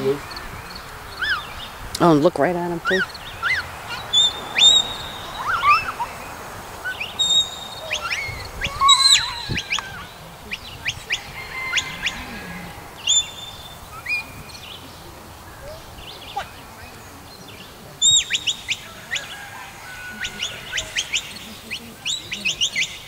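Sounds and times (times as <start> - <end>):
whistled bird notes: 0.0 - 1.8, 2.8 - 23.0
birds chirping: 0.0 - 23.0.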